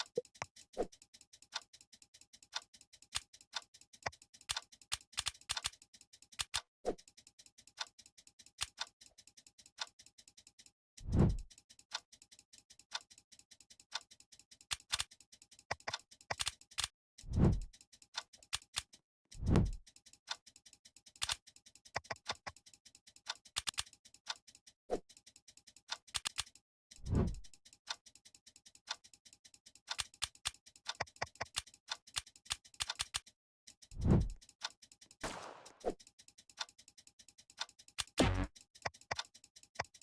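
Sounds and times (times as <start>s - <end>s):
rapid clicking and ticking: 0.0s - 40.0s.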